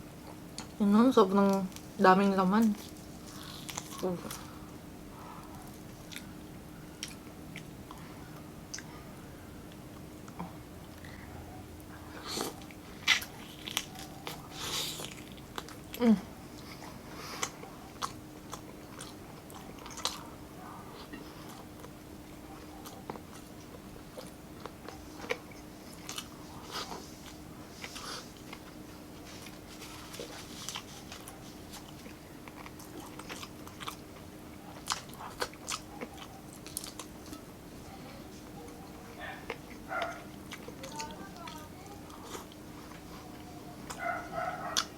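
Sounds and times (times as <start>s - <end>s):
faint steady hum: 0.0s - 44.9s
chewing and biting food: 2.7s - 4.8s, 5.4s - 8.9s, 11.8s - 20.4s, 21.0s - 37.5s, 38.3s - 44.9s.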